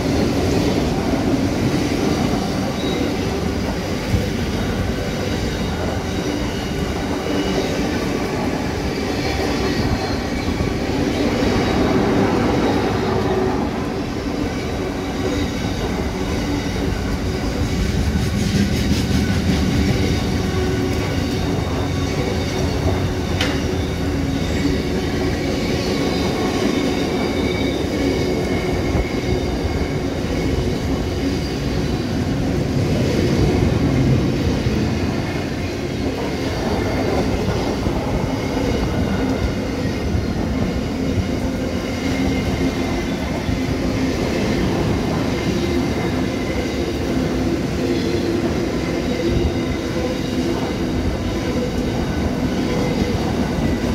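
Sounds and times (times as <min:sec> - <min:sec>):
train wagons rumbling on rails: 0:00.0 - 0:53.9.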